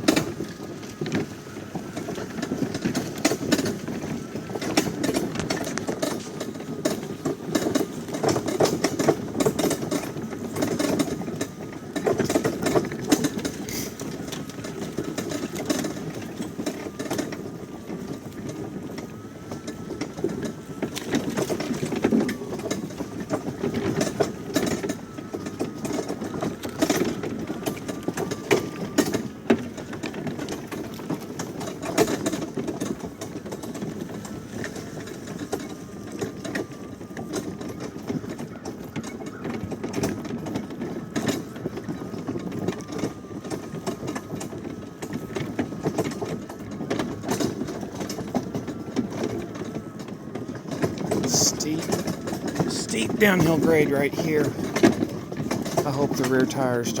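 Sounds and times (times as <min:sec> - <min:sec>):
towed wagon rattling: 0:00.0 - 0:57.0.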